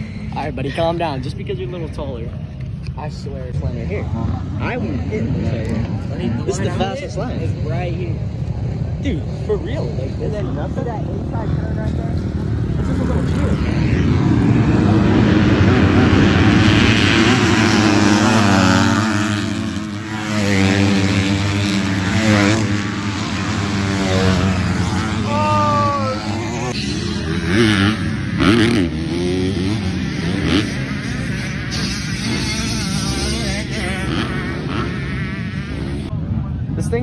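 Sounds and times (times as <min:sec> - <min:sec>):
dirt bike engines revving: 0:00.0 - 0:37.0
dirt bike passing by: 0:00.0 - 0:37.0.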